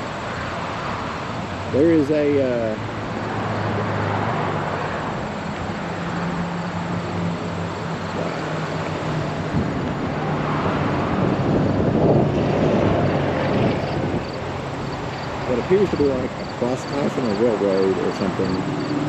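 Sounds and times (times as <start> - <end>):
low engine hum: 0.0 - 19.0
river rushing roar: 0.0 - 19.0.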